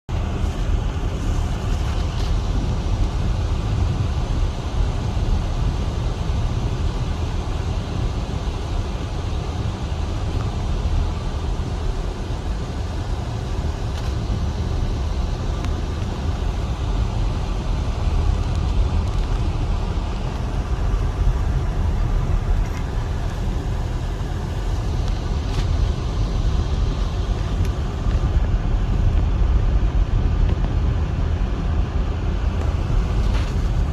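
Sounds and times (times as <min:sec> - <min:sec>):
car engine and tyres rumbling: 0:00.1 - 0:33.9.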